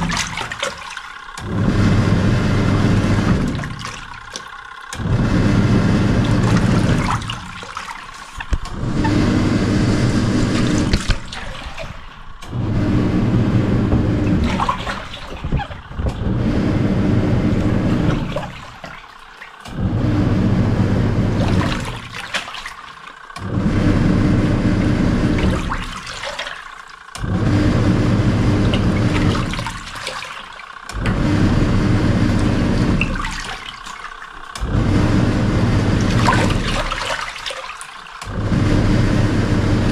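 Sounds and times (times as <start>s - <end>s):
washing machine churning water: 0.0s - 39.9s.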